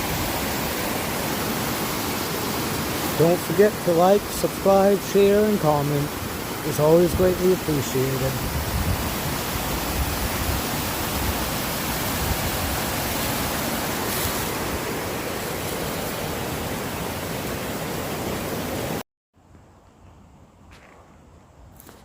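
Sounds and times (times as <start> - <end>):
stream rushing: 0.0 - 19.0.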